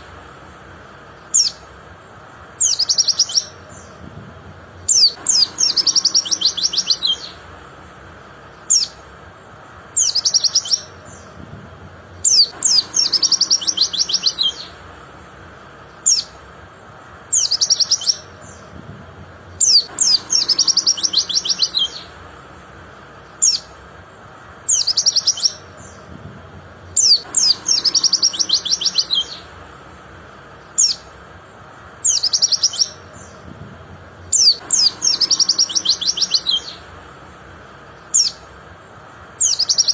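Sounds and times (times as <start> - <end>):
bird song with high chirps: 0.0 - 39.9.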